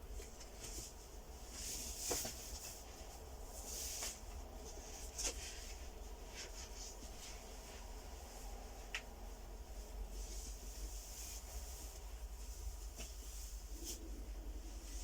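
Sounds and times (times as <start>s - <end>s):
faint rustling: 0.0s - 15.0s
low steady hum: 0.0s - 15.0s.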